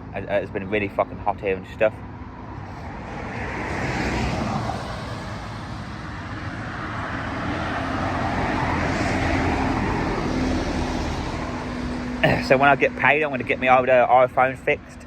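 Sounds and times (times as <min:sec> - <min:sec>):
cars passing close by: 0:00.0 - 0:15.0.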